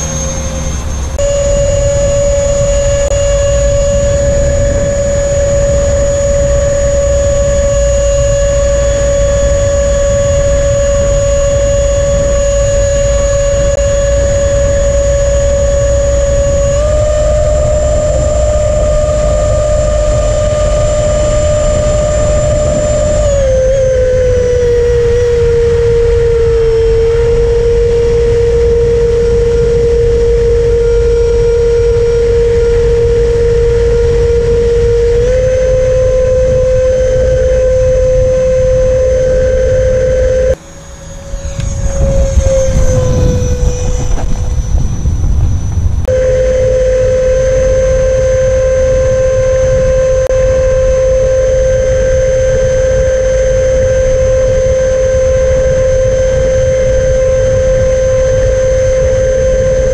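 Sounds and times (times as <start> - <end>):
electric ducted fan whining: 0.0 - 59.9
wind rush over airframe: 0.0 - 59.9.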